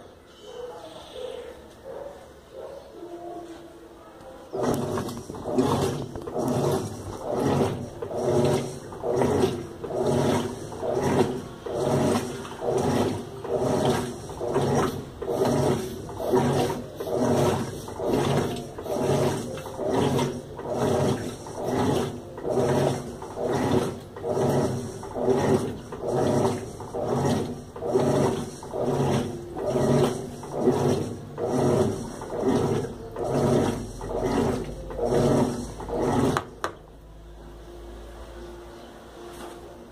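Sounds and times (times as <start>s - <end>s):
washing machine motor hum: 4.4s - 39.9s.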